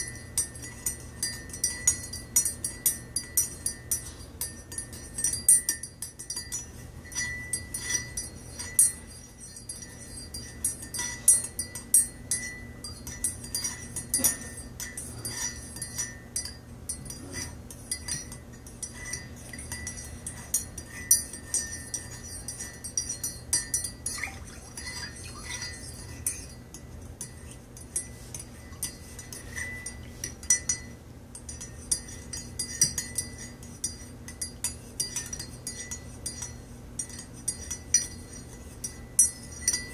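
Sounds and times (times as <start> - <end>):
teaspoon clinking in a ceramic mug: 0.0 - 39.9.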